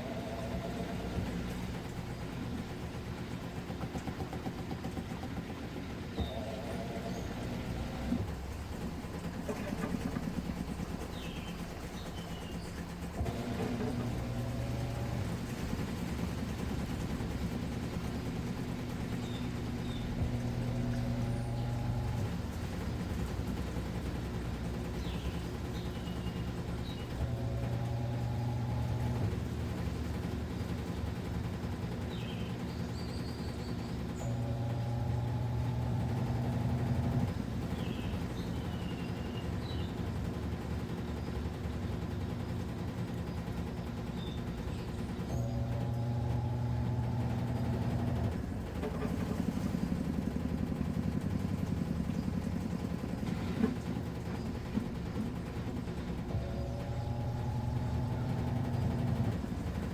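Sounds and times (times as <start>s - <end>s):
agitator motor whine: 0.0s - 59.9s
washing machine motor hum: 0.0s - 59.9s.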